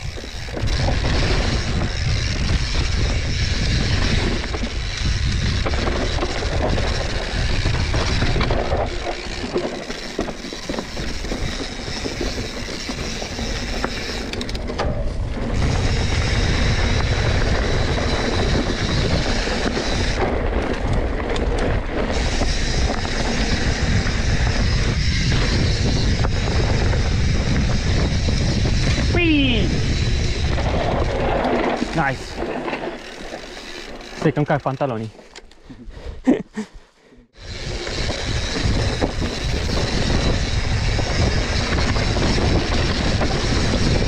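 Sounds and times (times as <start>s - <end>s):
wind on microphone: 0.0s - 33.1s, 37.3s - 44.0s
tyres on dirt and rock: 0.0s - 35.8s, 37.3s - 44.0s
bike rattling: 0.0s - 36.2s, 37.3s - 44.0s.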